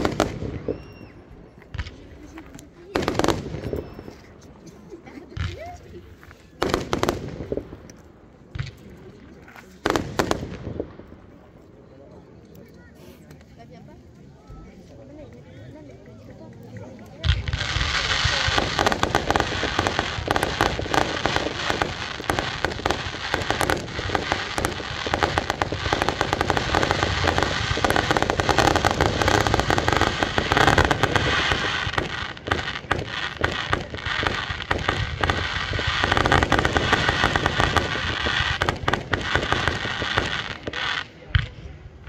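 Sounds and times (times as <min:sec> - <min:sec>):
fireworks bangs and crackling: 0:00.0 - 0:11.6, 0:16.4 - 0:42.0.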